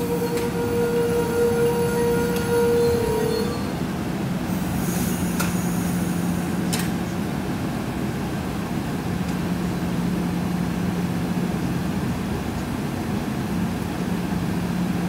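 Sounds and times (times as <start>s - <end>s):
train engine idling hum: 0.0s - 15.0s.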